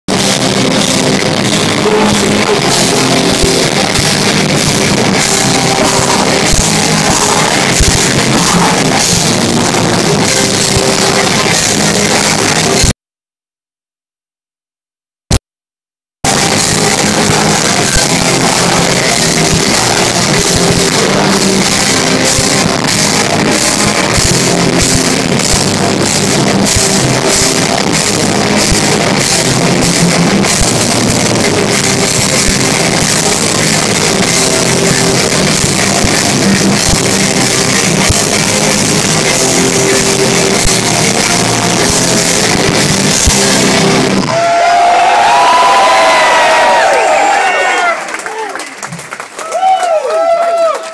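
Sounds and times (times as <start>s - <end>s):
distorted electric guitars: 0.0s - 13.0s, 16.2s - 48.0s
pounding drum kit: 0.1s - 12.9s, 16.2s - 46.3s.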